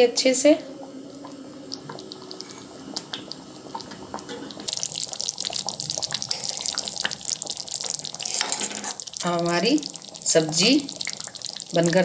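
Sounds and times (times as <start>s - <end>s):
thick gravy bubbling and popping: 0.7s - 12.0s.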